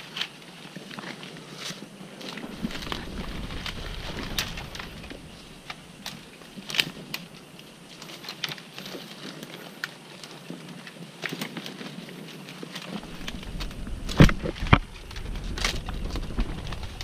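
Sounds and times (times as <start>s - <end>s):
dry leaves rustling underfoot: 0.0s - 17.0s.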